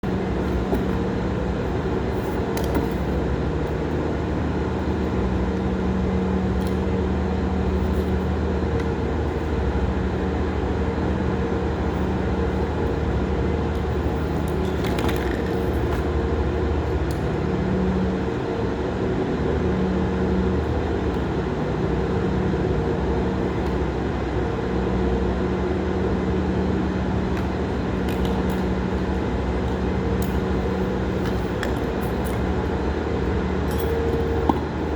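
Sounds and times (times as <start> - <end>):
machinery humming: 0.0 - 34.9.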